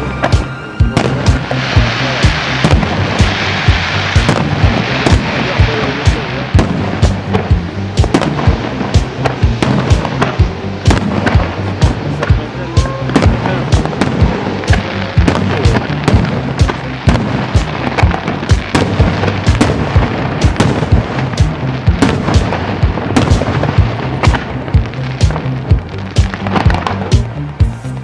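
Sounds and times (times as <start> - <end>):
firework shells bursting: 1.0 - 12.4, 13.1 - 25.4.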